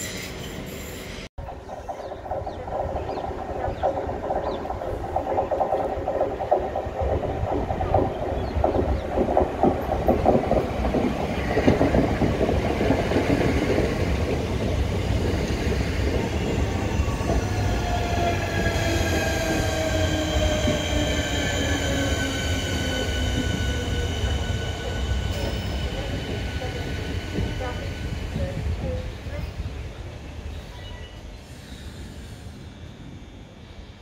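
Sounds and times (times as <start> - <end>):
train wheels rumbling and clattering: 0.0 - 31.5.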